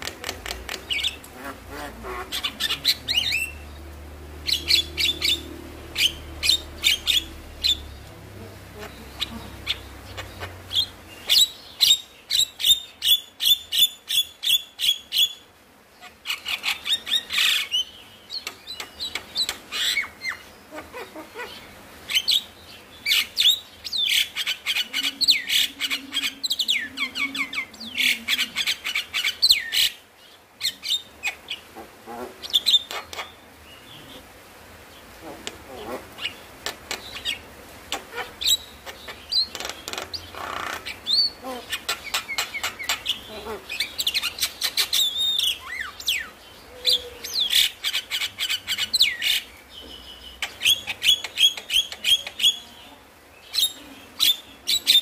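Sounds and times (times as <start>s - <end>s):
bird chattering song: 0.0s - 15.4s, 16.0s - 34.3s, 35.2s - 55.0s.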